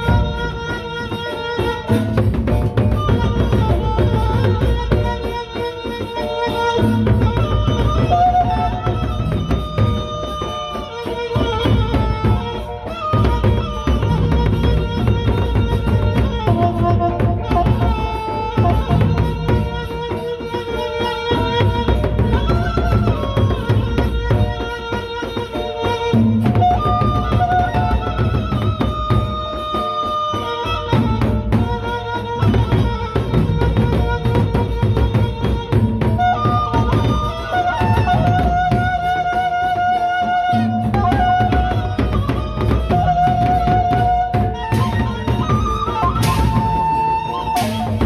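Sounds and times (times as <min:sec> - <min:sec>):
barrel drums beaten with sticks: 0:00.0 - 0:48.0
held melodic notes: 0:00.0 - 0:48.0.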